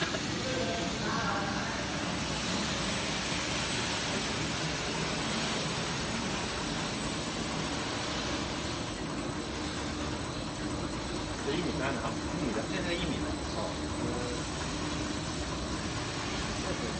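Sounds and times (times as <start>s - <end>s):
thin high whine: 0.0s - 16.9s.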